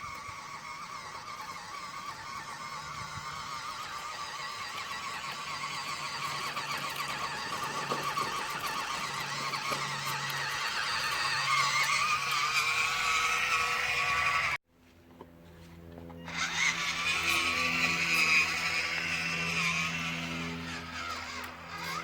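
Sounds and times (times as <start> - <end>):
electric motor and gearbox whine: 0.0 - 22.0.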